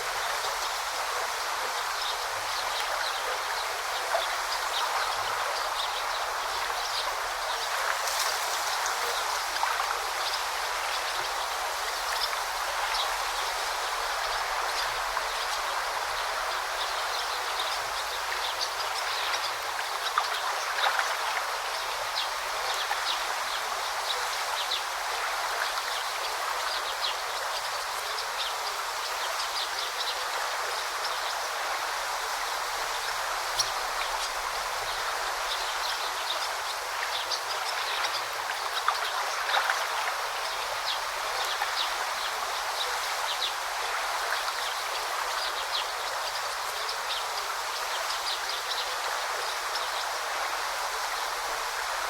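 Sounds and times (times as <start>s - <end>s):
stream babbling over rocks: 0.0s - 52.0s.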